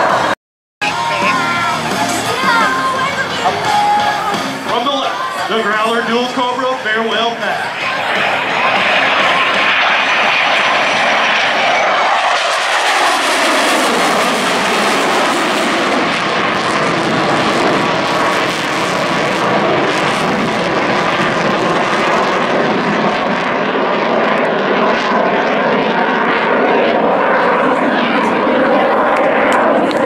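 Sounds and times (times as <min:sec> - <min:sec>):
jet engines passing overhead: 0:00.0 - 0:30.0.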